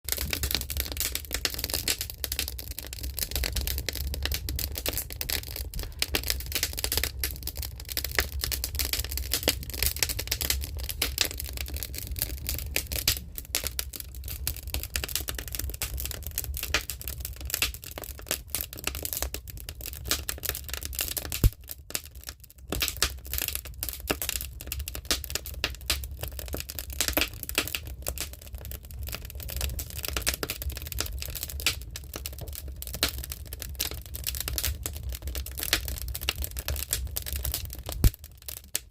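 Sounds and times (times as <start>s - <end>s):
fire crackling and popping: 0.1s - 38.9s.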